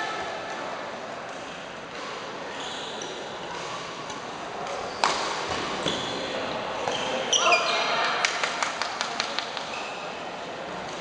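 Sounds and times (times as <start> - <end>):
reverberant sports hall noise: 0.0 - 11.0.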